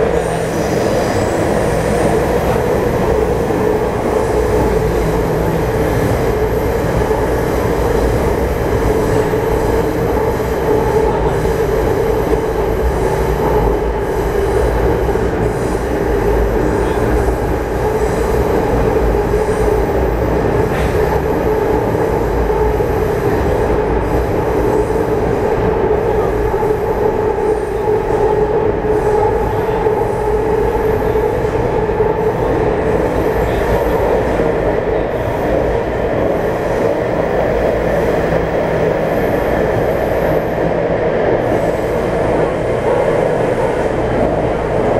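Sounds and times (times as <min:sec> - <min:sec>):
train rumbling through tunnel: 0:00.0 - 0:44.9.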